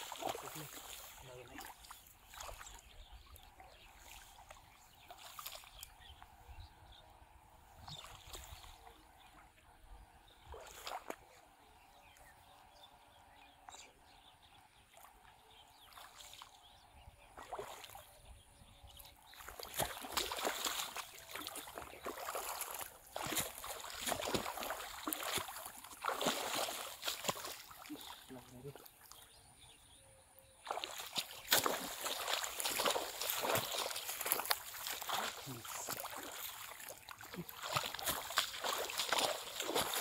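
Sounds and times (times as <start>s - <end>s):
water splashing and sloshing: 0.0s - 6.5s, 7.2s - 12.7s, 14.5s - 29.6s, 30.6s - 40.0s.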